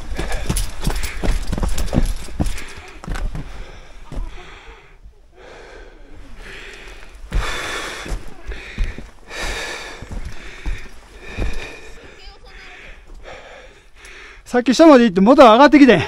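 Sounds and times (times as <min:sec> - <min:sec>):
heavy close breathing: 0:00.0 - 0:14.6.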